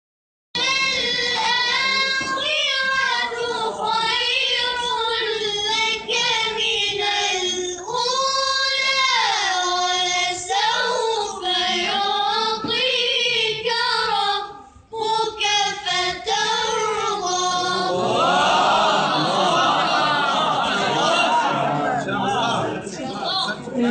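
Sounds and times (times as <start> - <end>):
children chanting melodic recitation: 0.6 - 14.2, 15.0 - 23.6
mix of voices: 0.6 - 23.9.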